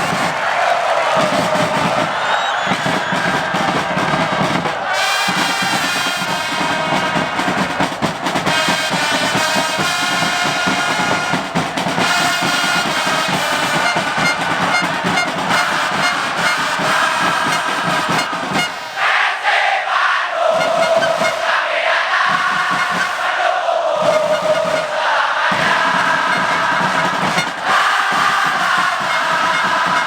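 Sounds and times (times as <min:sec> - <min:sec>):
drums beating: 0:00.0 - 0:19.2, 0:20.4 - 0:30.0
crowd singing a chant: 0:00.0 - 0:30.0.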